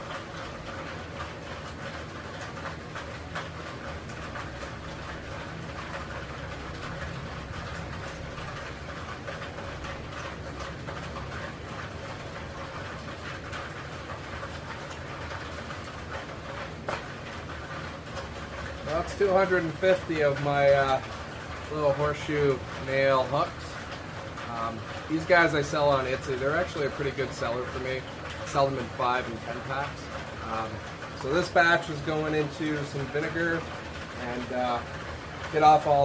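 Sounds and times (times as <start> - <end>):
mechanical hum with hiss: 0.0 - 36.0.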